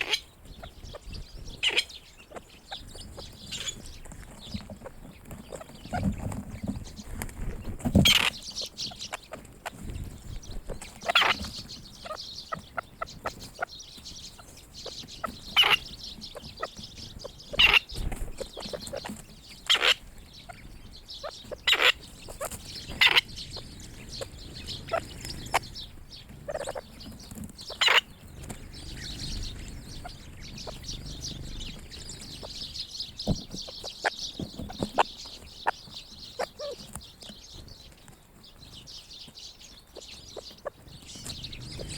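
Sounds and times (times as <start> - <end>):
partridges calling: 0.0 - 41.9
small birds chattering: 0.0 - 41.9.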